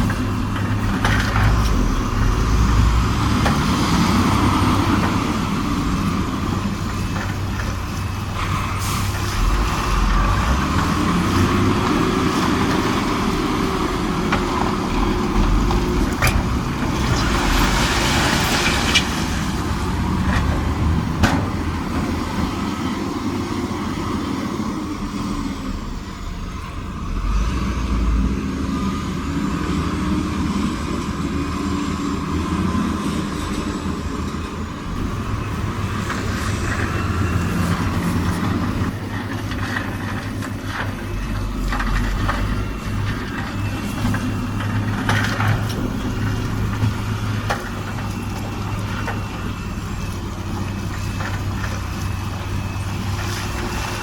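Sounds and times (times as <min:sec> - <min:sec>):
diesel machinery running under load: 0:00.0 - 0:54.0.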